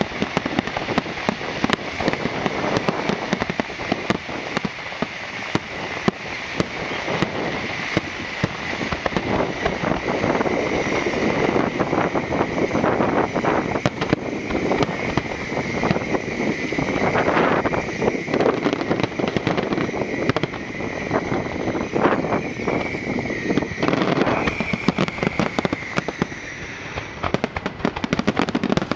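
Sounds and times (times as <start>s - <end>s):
fireworks bangs and crackles: 0.0s - 28.9s.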